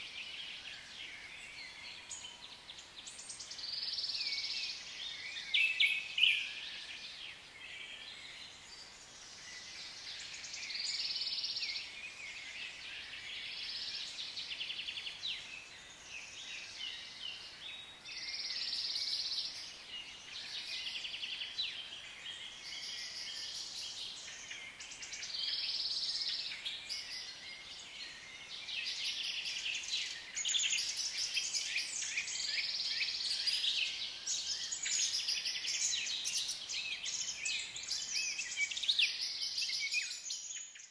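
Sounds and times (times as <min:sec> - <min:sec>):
birds chirping and calling: 0:00.0 - 0:40.9.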